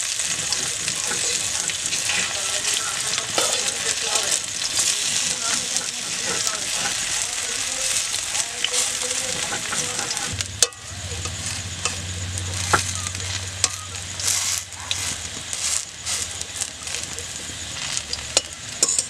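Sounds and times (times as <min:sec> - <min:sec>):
metal spatula scraping pan: 0:00.0 - 0:19.0
pakoras sizzling in oil: 0:00.0 - 0:19.0.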